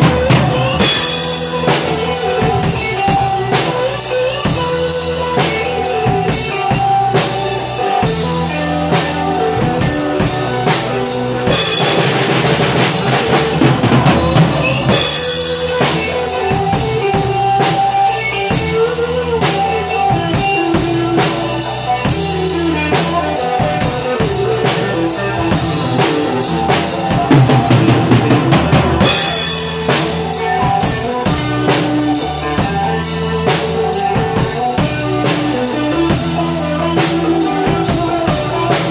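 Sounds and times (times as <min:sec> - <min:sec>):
pop-rock backing track: 0:00.0 - 0:38.9.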